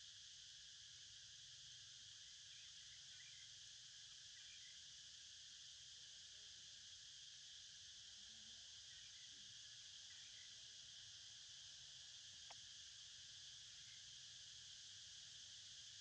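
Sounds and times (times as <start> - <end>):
high-pitched insect drone: 0.6 - 16.0.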